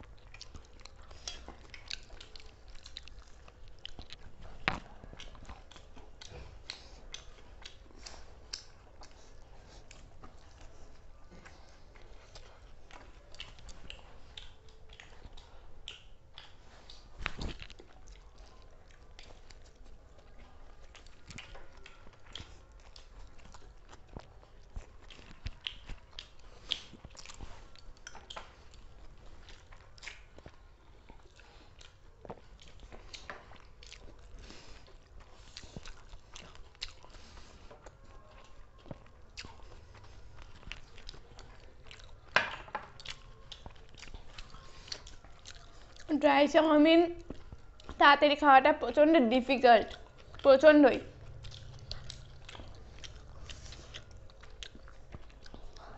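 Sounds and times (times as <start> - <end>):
people chewing and biting food: 0.0 - 55.9.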